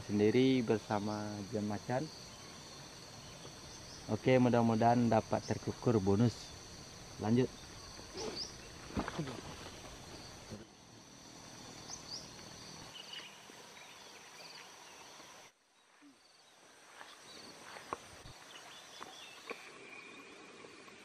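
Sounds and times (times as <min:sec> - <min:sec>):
high insect buzz: 0:00.0 - 0:21.0.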